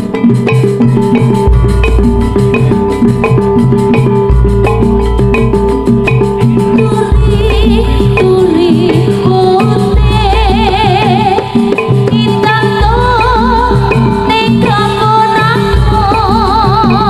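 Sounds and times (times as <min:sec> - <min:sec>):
held melody notes: 0:00.0 - 0:17.0
quick steady drumming: 0:00.0 - 0:17.0.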